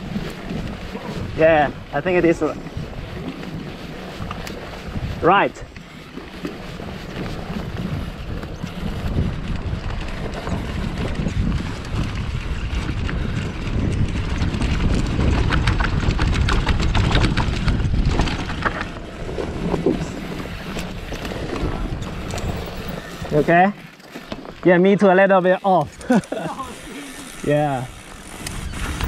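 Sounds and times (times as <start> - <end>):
wind on microphone: 0.0 - 24.6, 25.8 - 29.0
bike rattling and knocking: 0.0 - 29.0.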